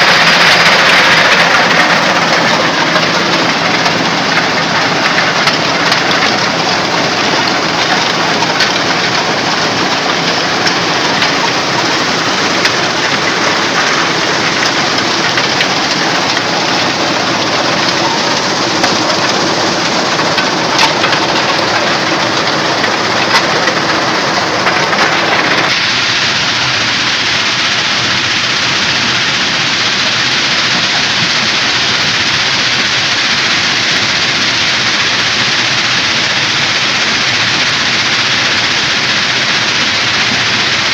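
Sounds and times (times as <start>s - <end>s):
stone crusher machinery din: 0.0s - 40.9s.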